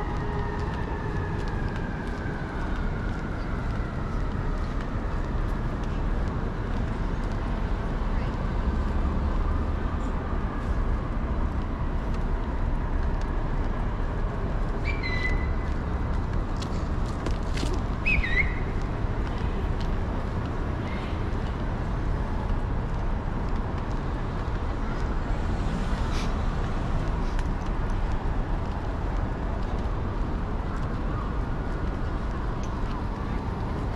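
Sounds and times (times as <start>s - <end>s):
traffic rumble: 0.0s - 33.9s.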